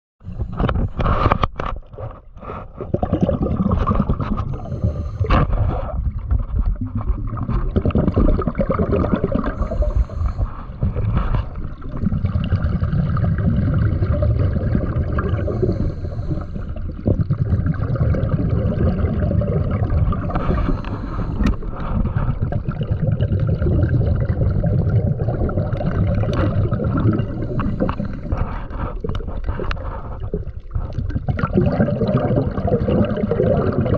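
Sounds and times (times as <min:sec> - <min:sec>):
low underwater rumble: 0:00.2 - 0:33.9
gurgling: 0:02.8 - 0:06.1, 0:06.8 - 0:33.9.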